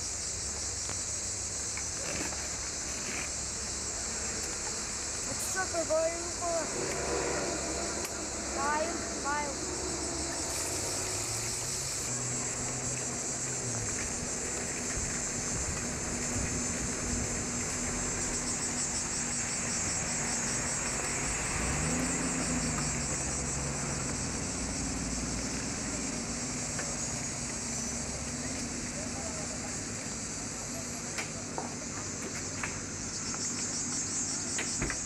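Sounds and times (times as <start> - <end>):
cicadas shrilling: 0.0 - 35.0
vehicle engine running low: 3.6 - 35.0.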